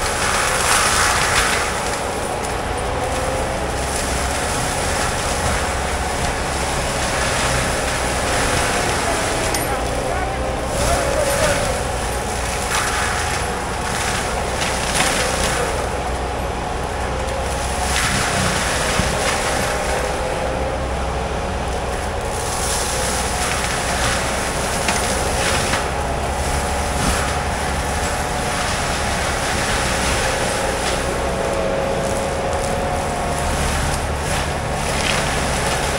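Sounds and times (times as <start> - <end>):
mulcher machine running: 0.0 - 35.9.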